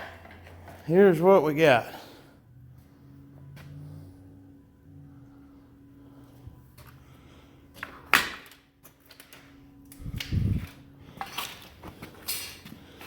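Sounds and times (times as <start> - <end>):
faint steady hum: 1.7 - 13.0.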